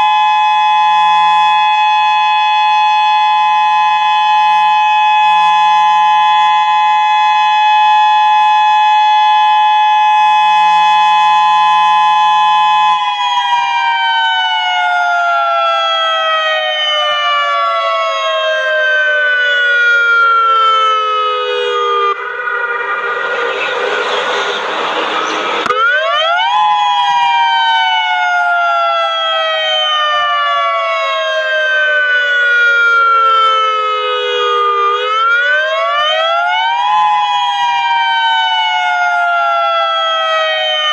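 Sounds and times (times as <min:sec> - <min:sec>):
warning siren multi-tone chord: 0:00.0 - 0:40.9.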